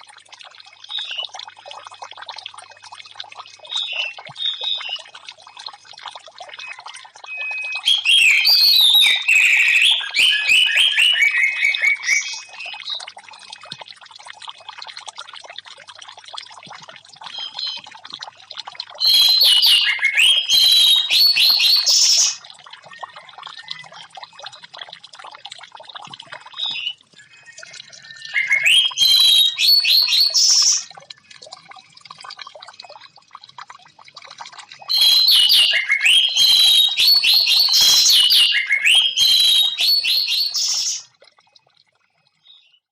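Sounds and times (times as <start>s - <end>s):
water trickling: 0.0s - 42.9s.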